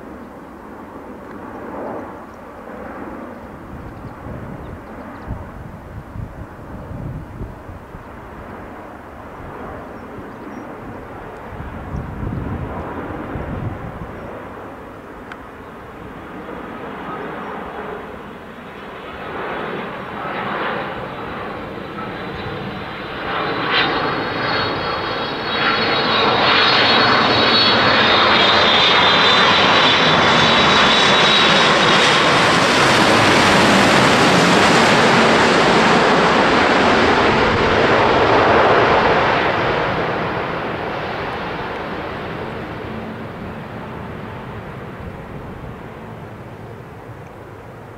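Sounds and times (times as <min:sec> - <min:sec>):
jet plane engine noise: 0:00.0 - 0:47.9.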